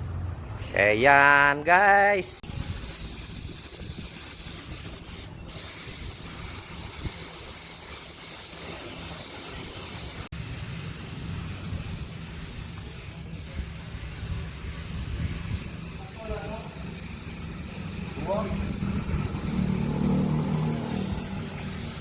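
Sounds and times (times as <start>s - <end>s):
compressed air hissing: 2.4s - 22.0s.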